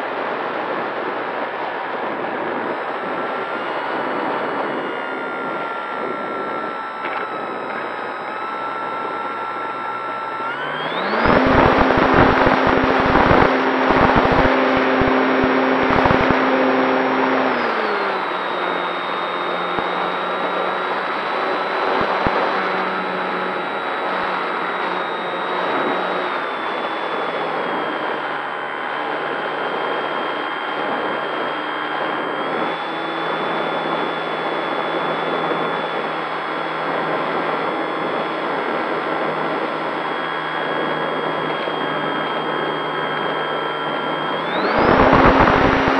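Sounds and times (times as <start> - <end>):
electric motor and propeller whining: 0.0 - 45.9.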